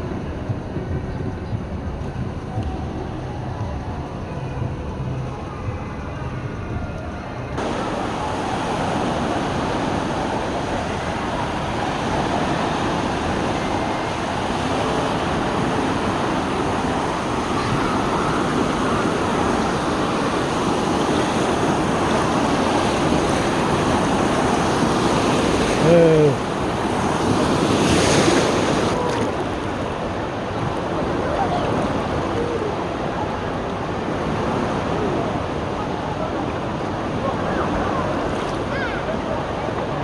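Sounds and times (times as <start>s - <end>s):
waves rushing and breaking: 7.4s - 40.0s.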